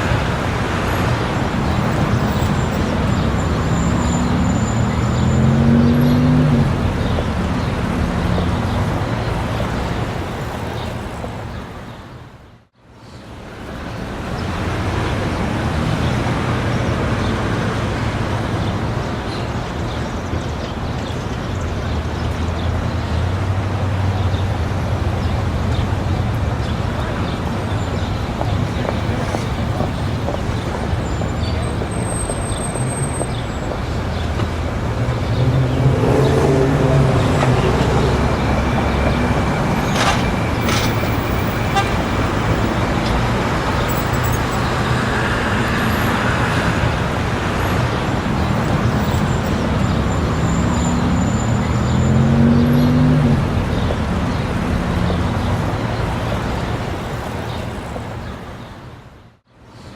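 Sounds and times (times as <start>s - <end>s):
street crowd hubbub: 0.0s - 59.9s
traffic noise: 0.0s - 59.9s
vehicles passing: 0.0s - 59.9s.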